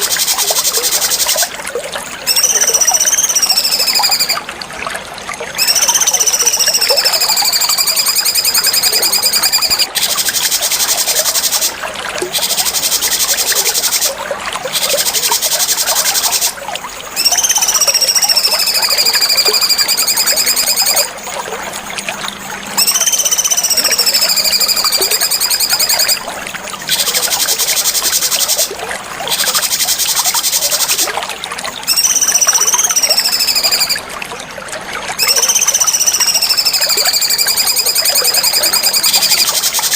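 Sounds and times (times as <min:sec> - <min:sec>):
songbird whistles and buzzy trills: 0:02.2 - 0:04.5, 0:05.4 - 0:21.3, 0:21.9 - 0:26.2, 0:26.9 - 0:28.7, 0:29.3 - 0:31.1, 0:31.8 - 0:34.0, 0:35.2 - 0:39.9.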